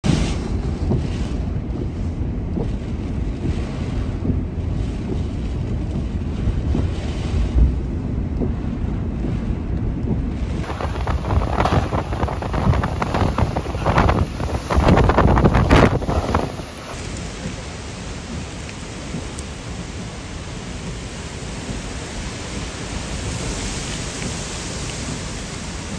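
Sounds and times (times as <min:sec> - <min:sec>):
driving rain: 0:00.0 - 0:25.9
hurricane wind: 0:00.0 - 0:25.9.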